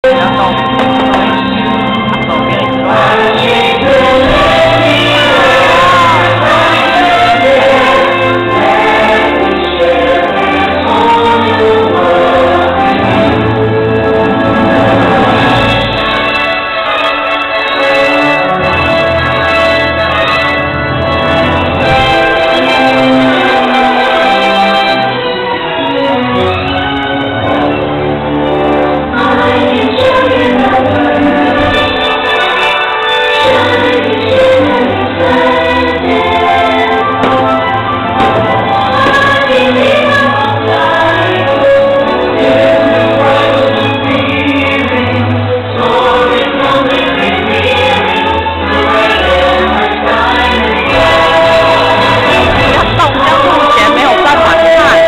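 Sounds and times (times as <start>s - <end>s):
choir singing held notes: 0.0s - 55.0s
orchestra playing: 0.0s - 55.0s.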